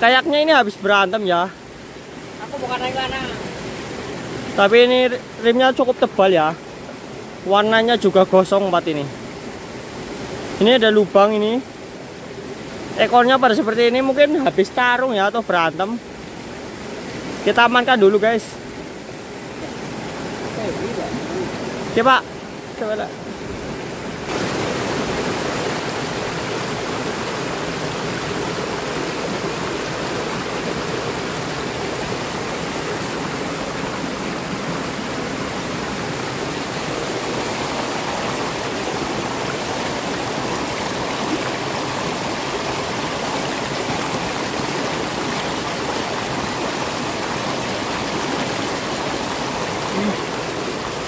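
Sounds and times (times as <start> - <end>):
water splashing over rocks: 0.1 - 51.0.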